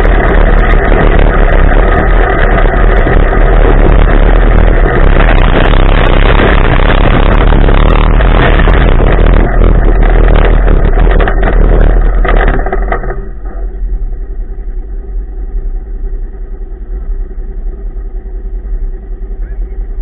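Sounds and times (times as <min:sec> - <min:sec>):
gravel noise: 0:00.0 - 0:20.0
off-road vehicle engine: 0:00.0 - 0:20.0
wind noise: 0:00.0 - 0:20.0.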